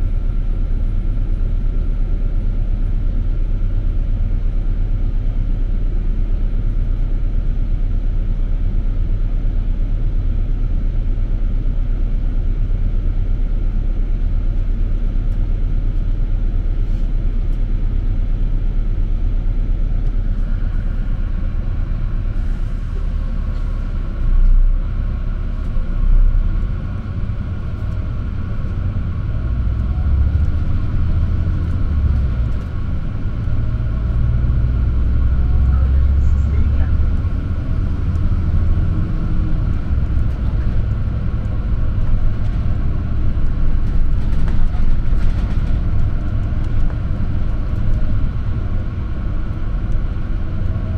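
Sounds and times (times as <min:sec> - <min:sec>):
bus engine rumbling: 0:00.0 - 0:50.9.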